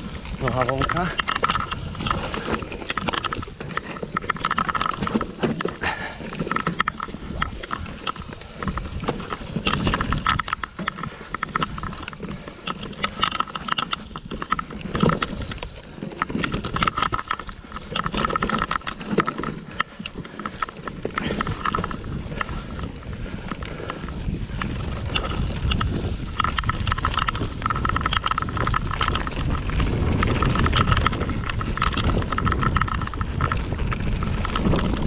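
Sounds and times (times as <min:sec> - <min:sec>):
bike clattering and rattling: 0:00.0 - 0:35.0
bike tyres rolling over dirt: 0:00.0 - 0:35.0
wind rumble on microphone: 0:00.0 - 0:35.0.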